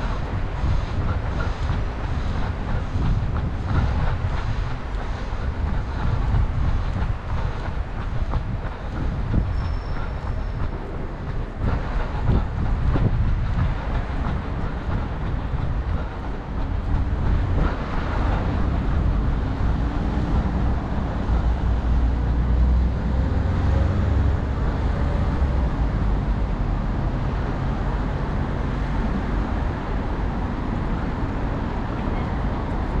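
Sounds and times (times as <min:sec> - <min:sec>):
city road traffic: 0:00.0 - 0:33.0.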